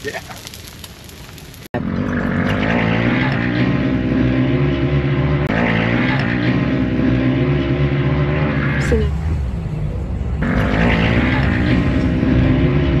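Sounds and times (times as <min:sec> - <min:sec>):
vehicle engine running: 0:01.8 - 0:13.0.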